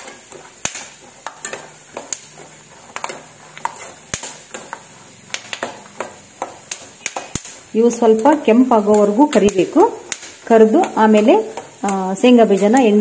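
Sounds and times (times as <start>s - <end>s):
oil sizzling: 0.0s - 13.0s
spoon clinking and scraping pan: 0.0s - 13.0s.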